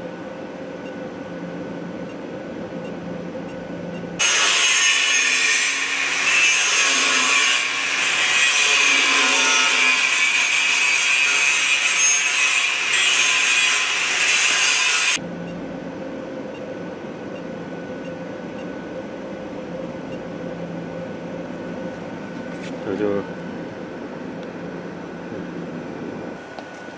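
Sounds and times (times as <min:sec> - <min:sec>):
steady shop hum: 0:00.0 - 0:26.9.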